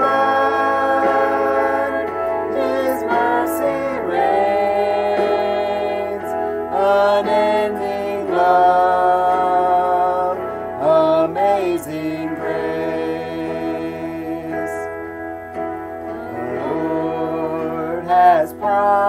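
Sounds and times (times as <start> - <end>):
man and woman singing in unison: 0.0 - 14.9, 16.2 - 19.0.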